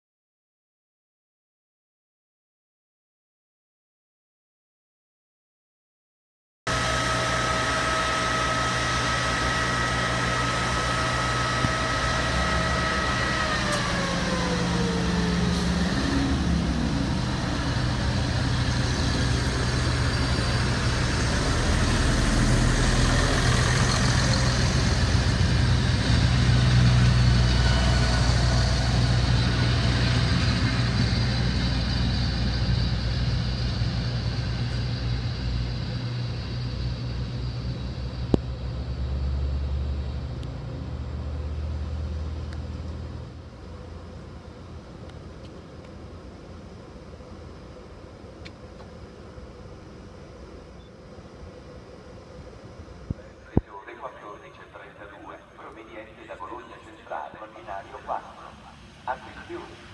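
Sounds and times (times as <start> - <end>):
high whine: 6.7 - 59.9
railcar diesel engines running: 6.7 - 59.9.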